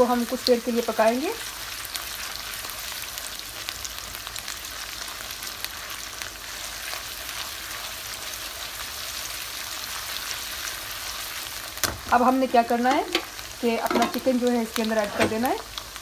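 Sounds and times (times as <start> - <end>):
onions frying in hot oil: 0.0 - 16.0.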